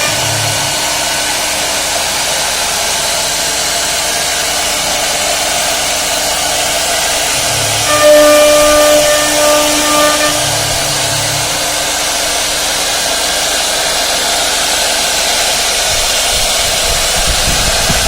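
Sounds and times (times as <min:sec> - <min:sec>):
router cutting wood hiss: 0:00.0 - 0:18.0
steady tones: 0:00.0 - 0:18.0.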